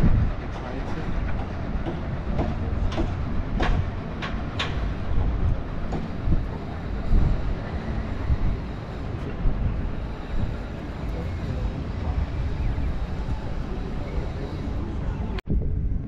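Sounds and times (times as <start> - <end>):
train rumbling: 0.0 - 15.7.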